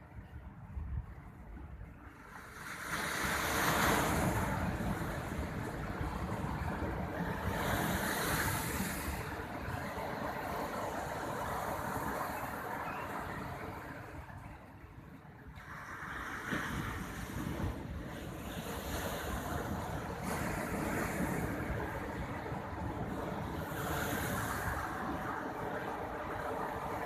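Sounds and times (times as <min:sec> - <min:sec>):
ocean surf breaking: 0:02.2 - 0:27.0.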